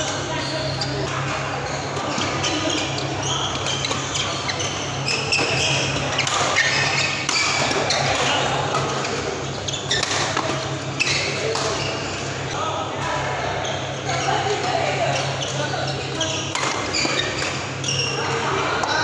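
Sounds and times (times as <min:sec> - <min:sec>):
shoes squeaking on court: 0:00.0 - 0:12.5, 0:13.6 - 0:19.0.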